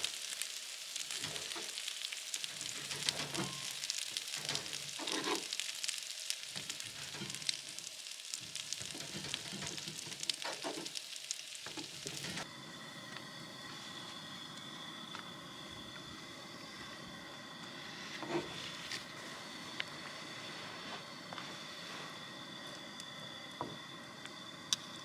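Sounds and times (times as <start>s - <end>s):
meat sizzling: 0.0s - 16.8s, 17.4s - 21.4s.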